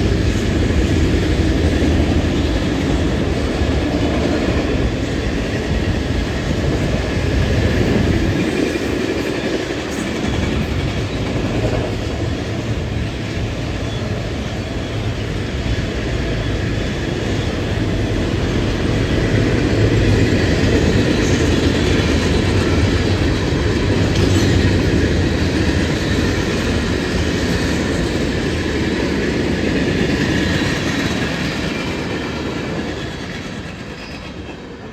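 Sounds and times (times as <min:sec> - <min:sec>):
train wheels rumbling on rail: 0:00.0 - 0:34.9.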